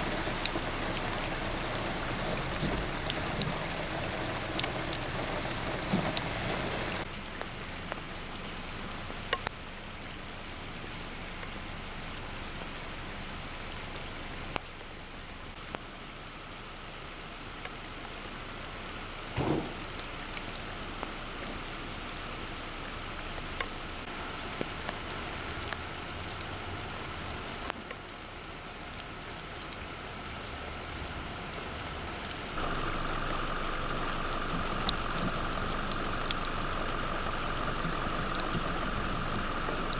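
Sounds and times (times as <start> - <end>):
rain falling on water: 0.0 - 39.9
truck tyres splashing through water: 0.0 - 39.9.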